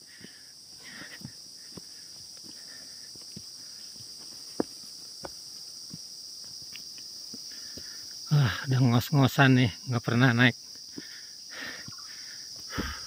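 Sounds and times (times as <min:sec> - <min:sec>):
footsteps on stone trail: 0:00.0 - 0:08.6, 0:10.6 - 0:13.0
high-pitched insect chorus: 0:00.0 - 0:13.0.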